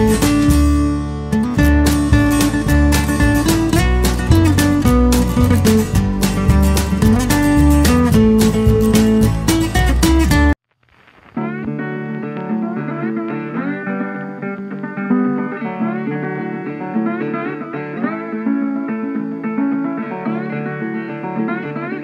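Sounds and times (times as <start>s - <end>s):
plucked guitar music: 0.0s - 10.6s, 11.4s - 22.0s.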